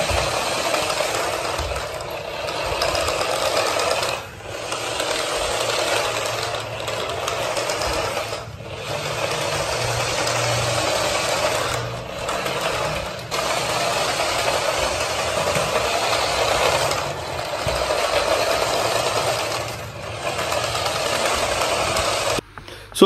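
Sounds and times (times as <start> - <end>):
toy truck motor whirring: 0.0 - 22.4.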